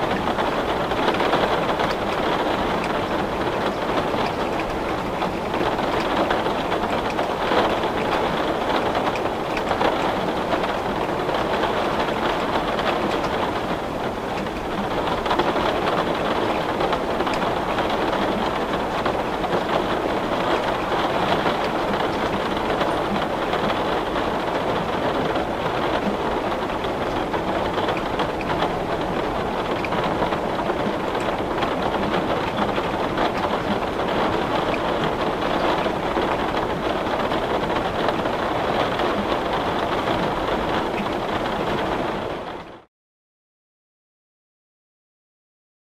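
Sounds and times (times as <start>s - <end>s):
heavy rain on window glass: 0.0s - 42.9s.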